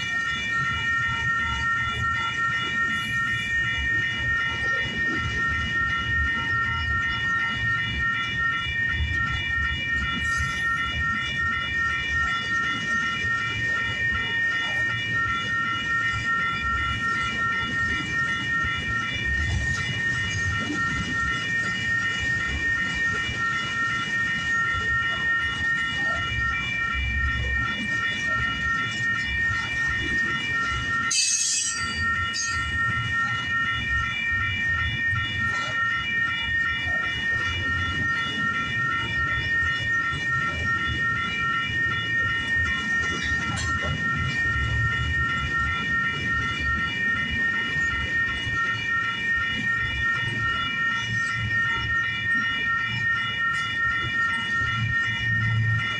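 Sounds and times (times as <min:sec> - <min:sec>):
high-pitched ringing tone: 0:00.0 - 0:55.9.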